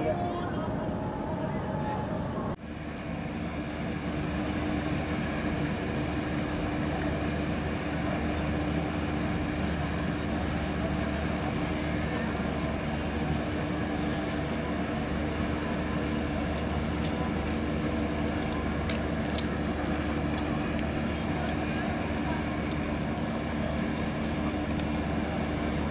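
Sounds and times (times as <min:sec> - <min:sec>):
ship diesel engines droning: 0:00.0 - 0:25.9.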